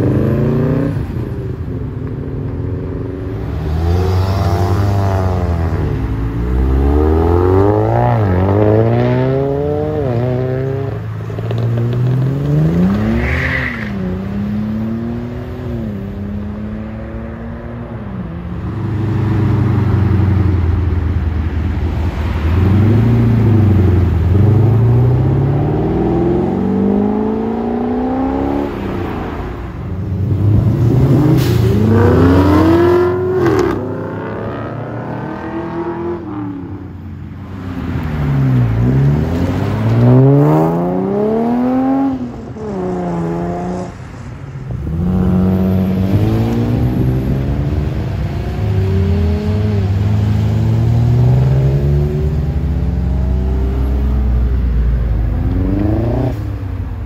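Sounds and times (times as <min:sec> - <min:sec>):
car engines revving hard: 0:00.0 - 0:57.0.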